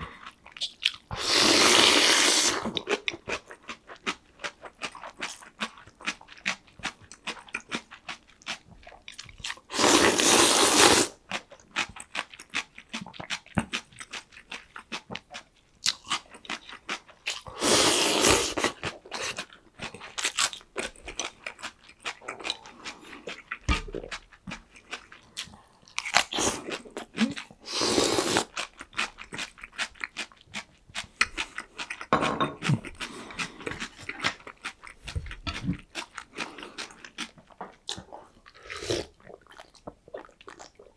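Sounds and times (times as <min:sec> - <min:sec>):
crunchy chewing of fried food: 0:00.0 - 0:40.9.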